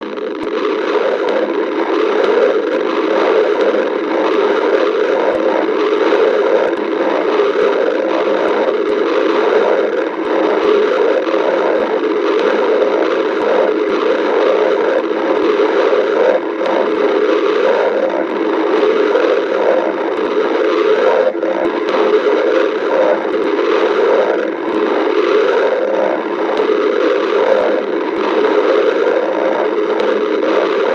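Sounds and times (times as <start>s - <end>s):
stomach growling: 0.0s - 30.9s.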